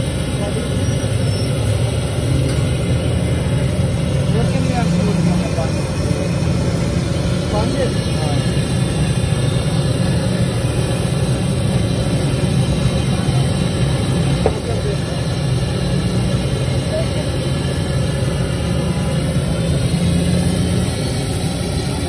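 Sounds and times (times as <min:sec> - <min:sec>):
low mechanical hum: 0:00.0 - 0:22.0
people chattering: 0:00.0 - 0:22.0.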